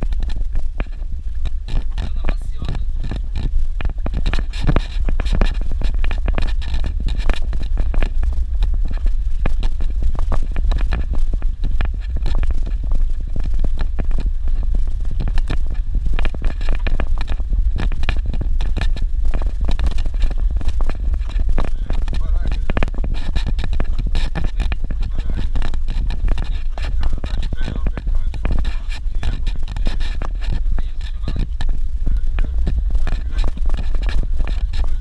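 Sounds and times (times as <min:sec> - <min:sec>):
vehicle rumble on dirt road: 0:00.0 - 0:35.0.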